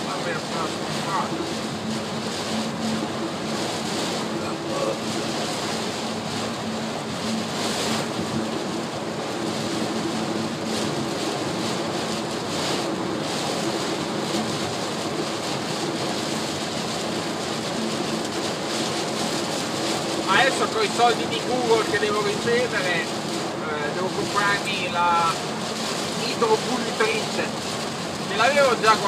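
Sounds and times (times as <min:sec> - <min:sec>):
low engine hum: 0:00.0 - 0:29.0
road and rain noise in car: 0:00.0 - 0:29.0
windshield wipers sweeping: 0:00.0 - 0:29.0.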